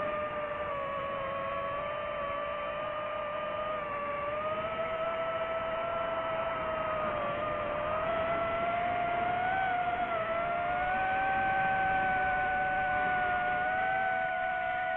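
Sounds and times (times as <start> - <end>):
drone propellers whining: 0.0 - 14.9.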